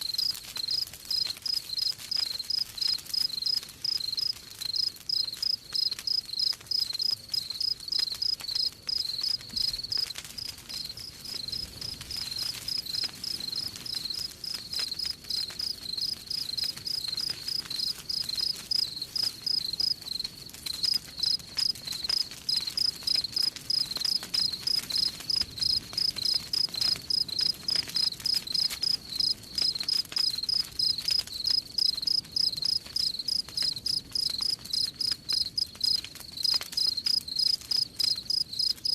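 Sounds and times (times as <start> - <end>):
crickets chirping: 0.0 - 10.1, 10.7 - 20.2, 20.8 - 38.9
campfire crackling: 0.0 - 38.9.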